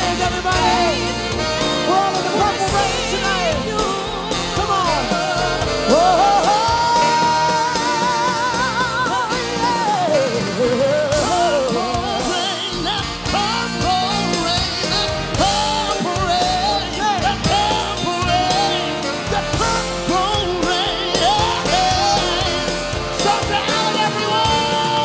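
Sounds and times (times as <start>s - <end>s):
drum kit beat: 0.0s - 25.0s
people singing lead melody: 0.0s - 25.0s.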